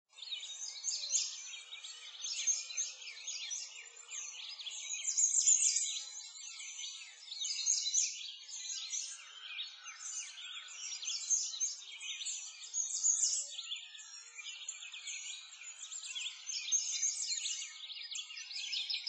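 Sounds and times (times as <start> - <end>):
songbirds chirping: 0.1 - 19.0.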